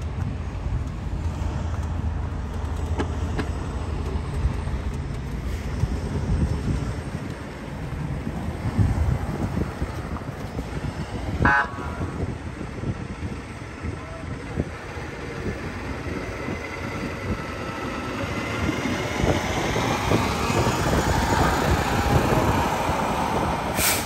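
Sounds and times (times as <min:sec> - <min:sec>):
heavy vehicle approaching: 0:00.0 - 0:24.0
street traffic: 0:00.0 - 0:24.0.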